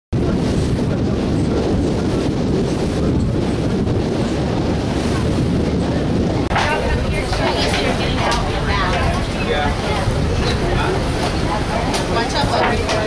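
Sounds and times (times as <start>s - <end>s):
boat and water noise: 0.1s - 13.0s
wind rumble on microphone: 0.1s - 13.0s.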